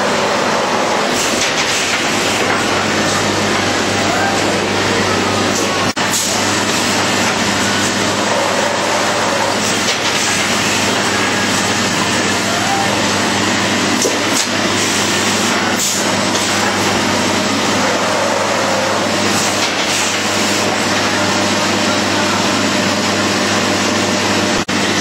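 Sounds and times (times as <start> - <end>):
textile cutting machine drone: 0.0 - 25.0.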